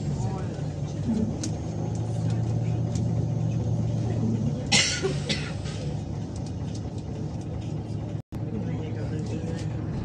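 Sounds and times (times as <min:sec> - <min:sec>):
bus engine idling: 0:00.0 - 0:10.0.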